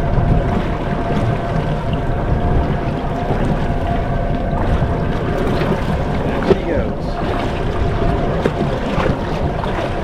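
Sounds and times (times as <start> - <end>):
choppy sea washing against hull: 0.0 - 10.0
wind noise on microphone: 0.0 - 10.0.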